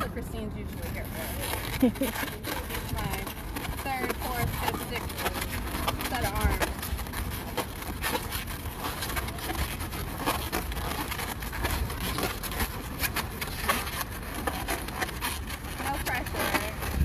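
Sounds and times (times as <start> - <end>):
balloons squeaking and rubbing: 0.0 - 17.0
steady low rumble: 0.0 - 17.0.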